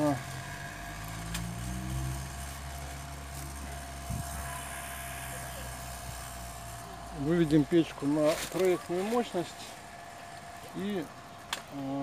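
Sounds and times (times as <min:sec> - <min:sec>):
small electric blower fan humming: 0:00.0 - 0:12.0.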